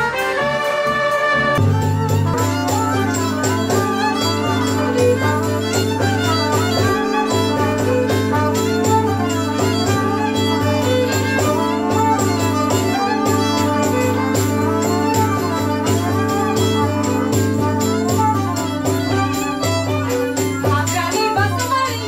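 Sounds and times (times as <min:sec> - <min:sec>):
fiddle melody: 0:00.0 - 0:22.0
low held drone: 0:01.6 - 0:21.4
steady beat: 0:01.6 - 0:22.0.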